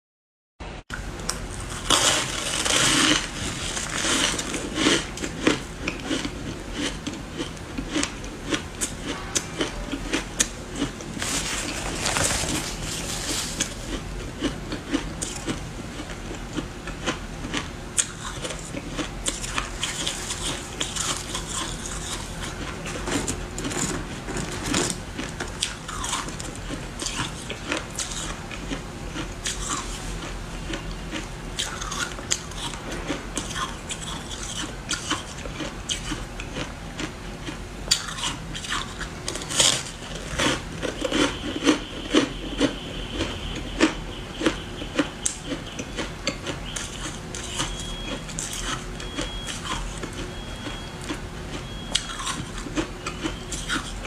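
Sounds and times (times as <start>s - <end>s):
ice being bitten and chewed: 1.3s - 54.0s.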